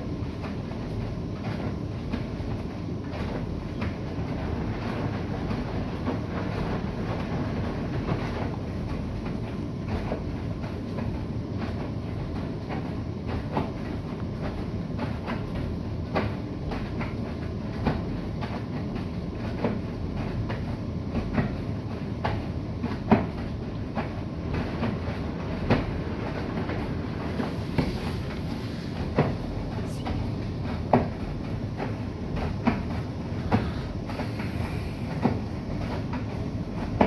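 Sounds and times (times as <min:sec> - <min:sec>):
washing machine drum rumbling: 0:00.0 - 0:37.0
laundry knocking in drum: 0:00.1 - 0:34.3.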